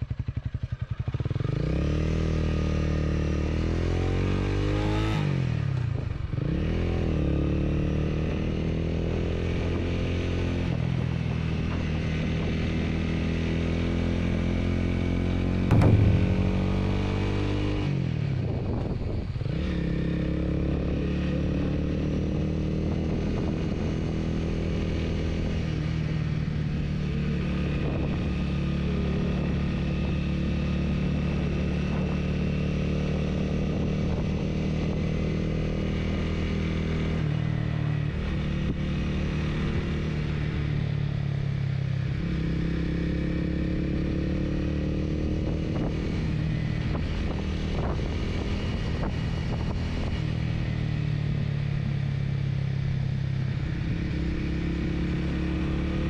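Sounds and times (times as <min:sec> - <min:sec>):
motorcycle engine running: 0:00.0 - 0:08.6, 0:09.5 - 0:56.0.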